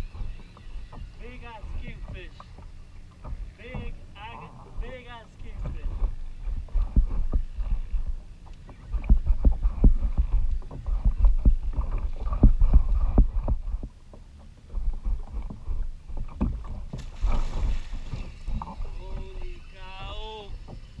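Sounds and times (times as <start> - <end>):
water slapping against kayak hull: 0.0 - 21.0
wind buffeting microphone: 0.0 - 21.0.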